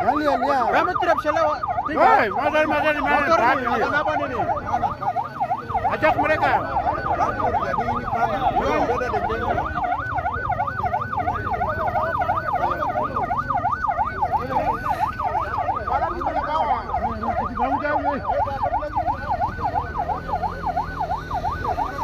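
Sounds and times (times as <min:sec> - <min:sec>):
siren yelping: 0:00.0 - 0:22.0.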